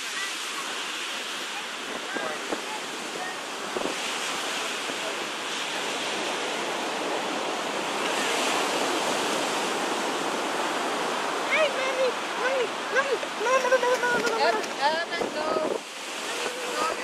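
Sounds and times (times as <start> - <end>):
waves washing up beach: 0.0 - 17.0.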